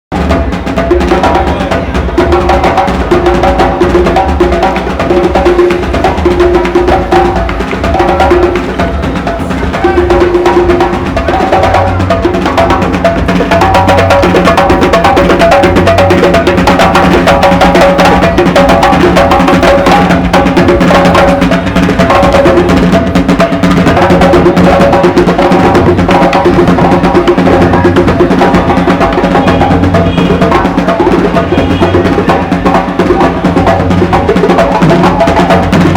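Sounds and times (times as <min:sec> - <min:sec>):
music with percussion: 0:00.1 - 0:35.9.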